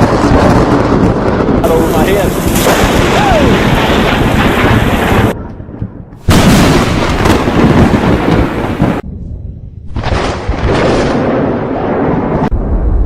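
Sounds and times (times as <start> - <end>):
thunder crashing and rumbling: 0.0 - 13.0.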